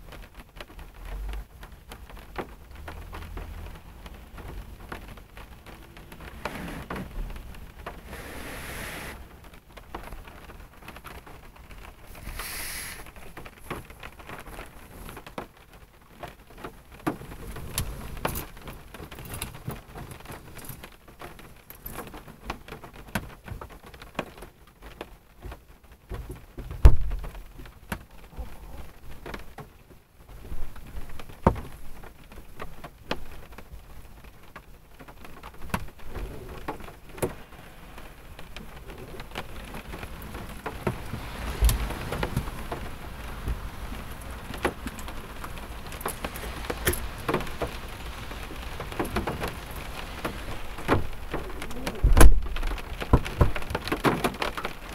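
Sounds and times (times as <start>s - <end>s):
rain drops tapping on car roof: 0.0s - 54.9s.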